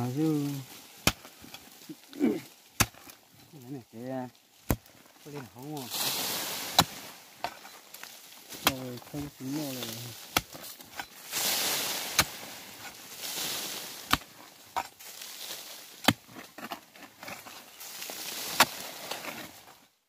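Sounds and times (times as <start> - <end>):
earth and roots rustling: 0.0 - 20.0
hoe chopping into soil: 0.9 - 3.2, 4.6 - 15.0, 15.9 - 19.6.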